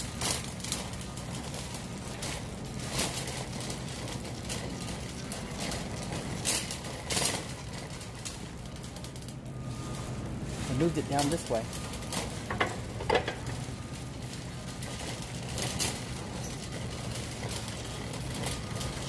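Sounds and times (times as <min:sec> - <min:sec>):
shopping cart clanks: 0:00.0 - 0:19.0
shopping cart rolling rattle: 0:00.0 - 0:19.0.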